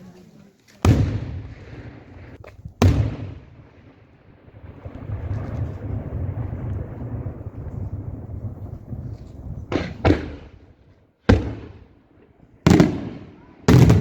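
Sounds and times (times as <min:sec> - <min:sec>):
fireworks bangs: 0:00.8 - 0:14.0
rolling rumble of blast echoes: 0:00.8 - 0:14.0.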